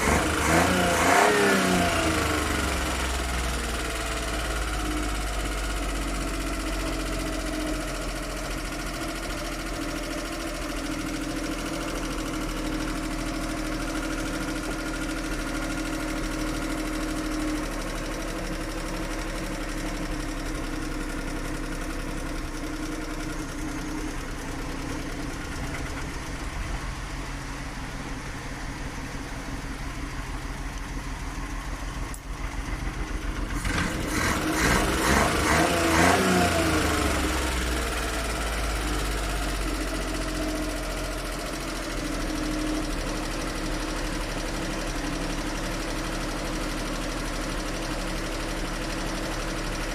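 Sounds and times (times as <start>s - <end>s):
outboard engine idling and revving: 0.0s - 49.9s.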